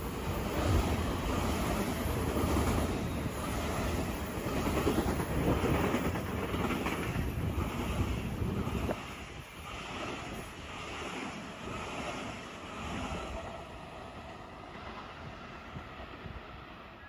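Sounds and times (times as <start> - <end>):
train cars rushing past: 0.0 - 17.0
train wheels on rails: 0.0 - 17.0.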